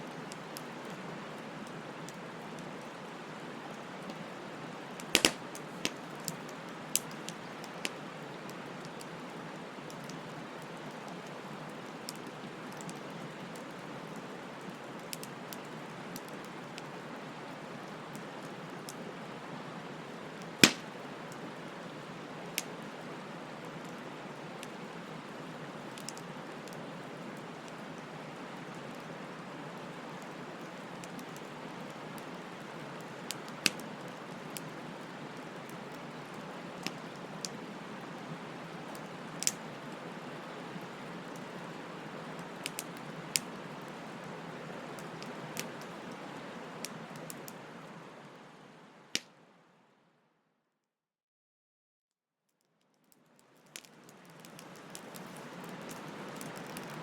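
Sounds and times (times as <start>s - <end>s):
campfire burning and crackling: 0.0s - 49.5s, 53.0s - 57.0s
fire popping and snapping: 0.1s - 17.0s, 20.2s - 23.0s, 23.6s - 47.6s, 53.3s - 57.0s.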